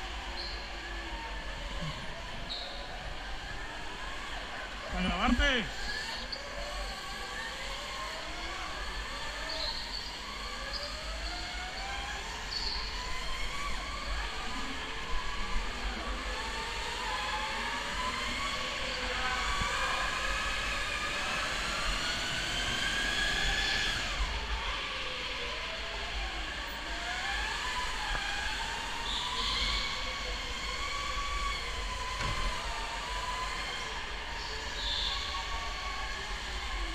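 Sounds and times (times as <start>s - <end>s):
go-kart drive whine: 0.0s - 36.9s.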